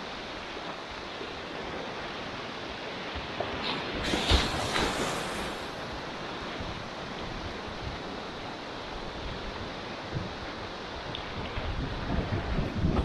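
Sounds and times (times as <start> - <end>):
river water rushing and splashing: 0.0 - 13.0.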